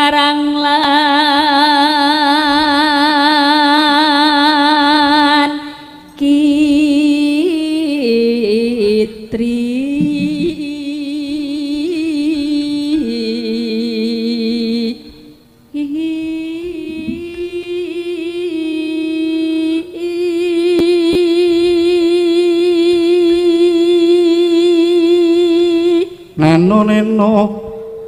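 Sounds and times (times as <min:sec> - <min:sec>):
amplified voice singing with vibrato: 0:00.0 - 0:28.0.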